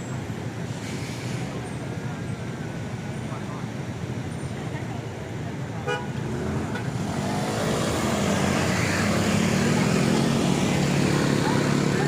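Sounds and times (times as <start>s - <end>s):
city street traffic: 0.0s - 12.0s
vehicle engine: 0.0s - 12.0s.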